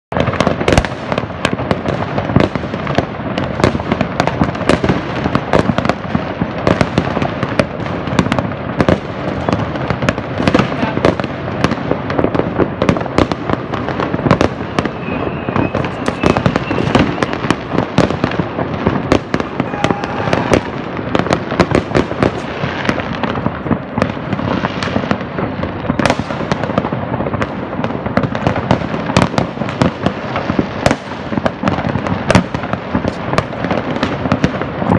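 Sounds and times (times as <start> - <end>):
fireworks bangs: 0.1 - 34.9.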